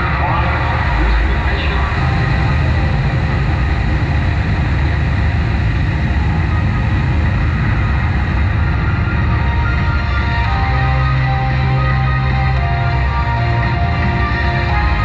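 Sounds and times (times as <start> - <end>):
deep rocket launch rumble: 0.0 - 15.0.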